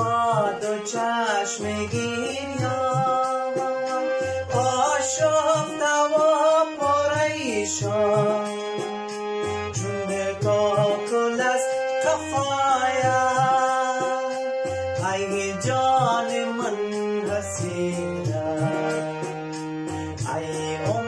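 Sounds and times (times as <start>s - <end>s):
electronic keyboard: 0.0s - 21.0s
man singing: 0.0s - 21.0s.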